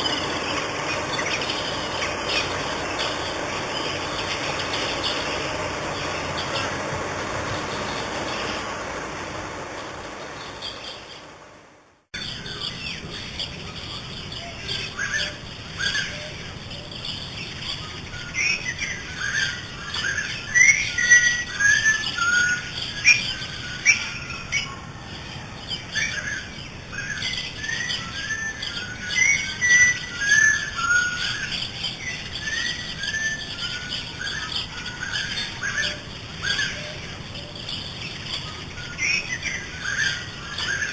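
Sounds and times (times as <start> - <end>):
birds chirping and whistling: 0.0 - 11.4, 12.2 - 40.9.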